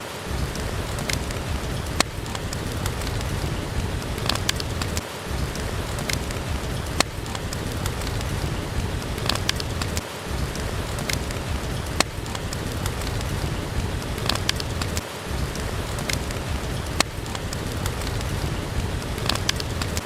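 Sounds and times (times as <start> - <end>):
heavy rain: 0.0 - 20.0
wood fire crackling: 0.0 - 20.0.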